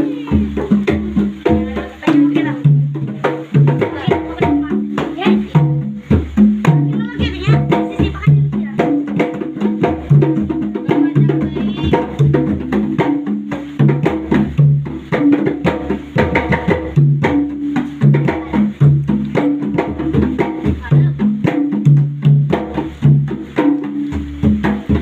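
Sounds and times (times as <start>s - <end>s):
pitched drums: 0.0s - 25.0s.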